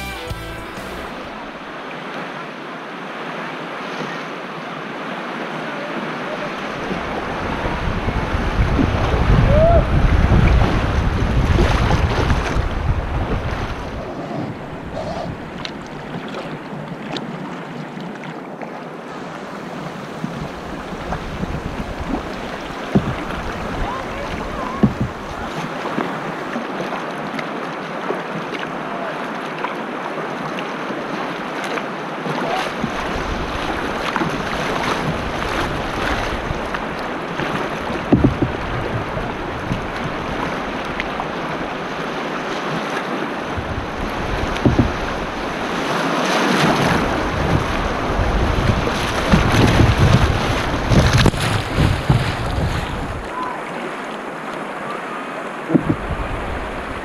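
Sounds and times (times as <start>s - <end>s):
waves breaking: 0.0s - 57.0s
river water splashing on a hull: 0.3s - 57.0s.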